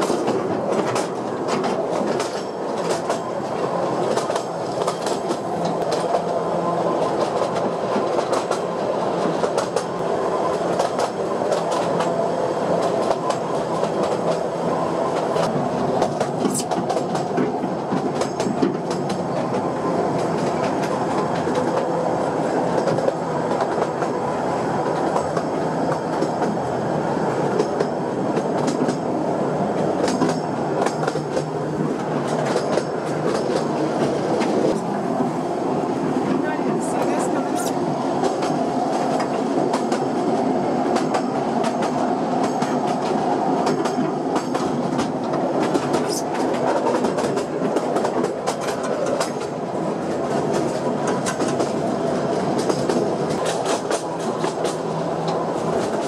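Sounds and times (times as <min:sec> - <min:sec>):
track clicks and clacks: 0:00.0 - 0:06.4, 0:07.0 - 0:21.9, 0:22.6 - 0:24.2, 0:24.8 - 0:26.6, 0:27.4 - 0:29.1, 0:29.7 - 0:35.3, 0:36.2 - 0:56.0
train wheels rumbling on rail: 0:00.0 - 0:56.0.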